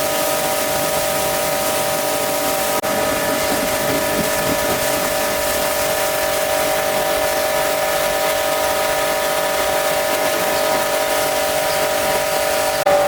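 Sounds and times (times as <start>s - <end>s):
pressure washer motor whine: 0.0s - 13.0s
water jet hissing: 0.0s - 13.0s.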